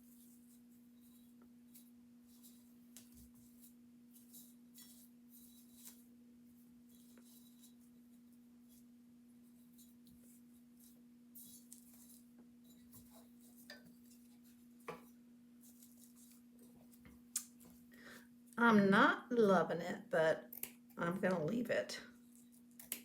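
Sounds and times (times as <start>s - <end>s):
hands rustling ribbon: 0.0s - 18.6s, 22.1s - 23.0s.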